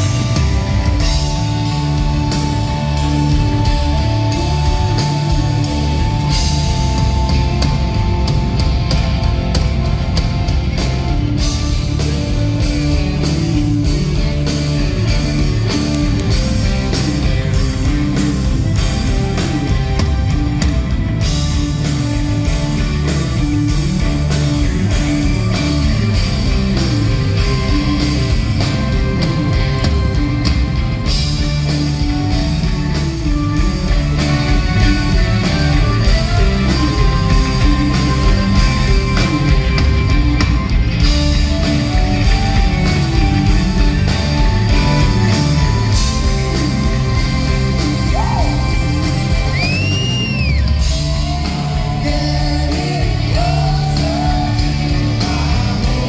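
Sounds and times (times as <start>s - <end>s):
bass guitar: 0.0s - 56.0s
drum kit: 0.0s - 56.0s
electric guitars: 0.0s - 56.0s.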